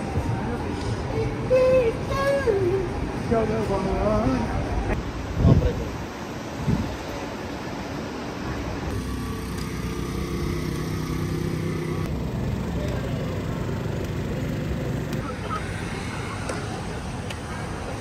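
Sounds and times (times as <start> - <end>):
steady engine hum: 0.0 - 18.0
traffic: 0.0 - 18.0.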